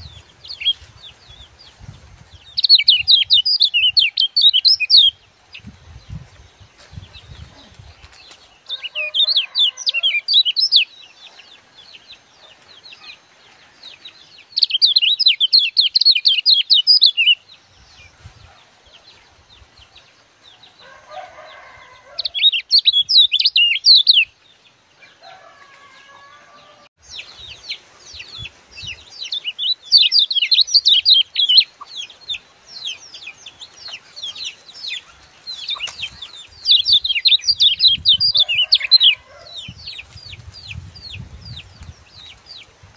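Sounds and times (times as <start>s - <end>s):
songbird chattering song: 0.0s - 24.7s, 27.0s - 42.9s.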